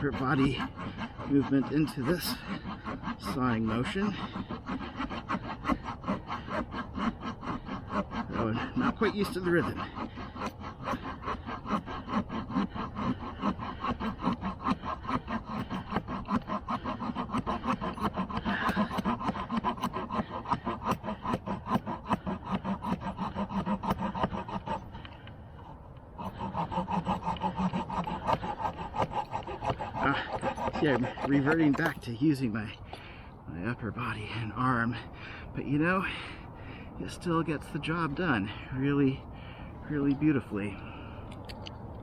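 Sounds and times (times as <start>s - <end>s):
small saw sawing through stick: 0.0s - 41.2s.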